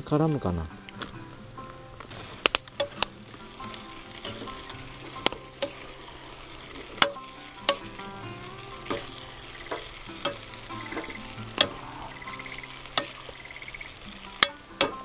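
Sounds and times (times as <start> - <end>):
utensil stirring sauce in wok: 2.1 - 15.0.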